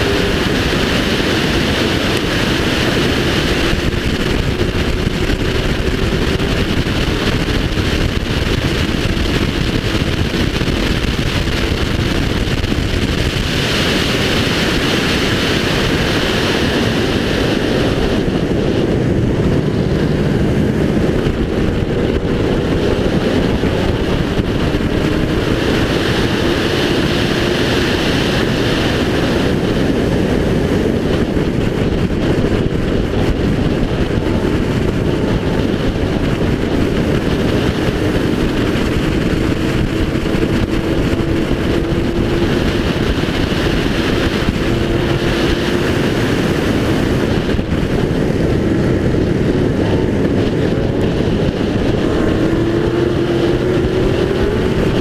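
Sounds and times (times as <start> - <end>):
race car engine: 0.0 - 55.0
wind noise on microphone: 0.0 - 55.0.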